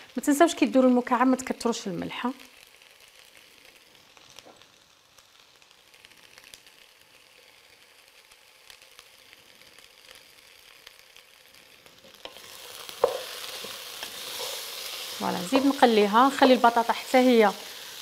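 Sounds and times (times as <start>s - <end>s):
small crackles: 0.0s - 18.0s
vegetables sizzling in oil: 0.0s - 18.0s.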